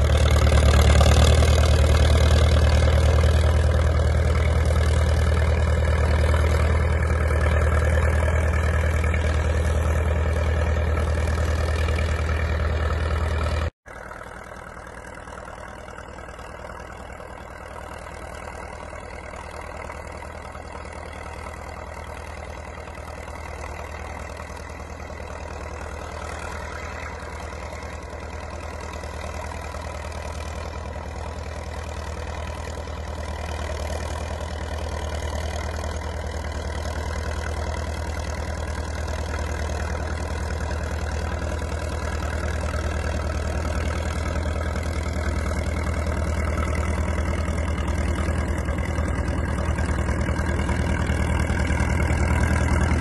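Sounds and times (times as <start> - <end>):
crawler diesel engine running: 0.0 - 53.0.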